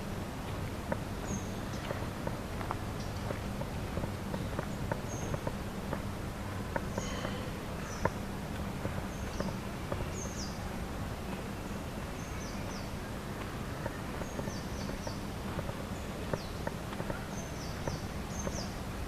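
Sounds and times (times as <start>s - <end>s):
outdoor background hum: 0.0s - 19.0s
small birds chirping: 0.5s - 19.0s.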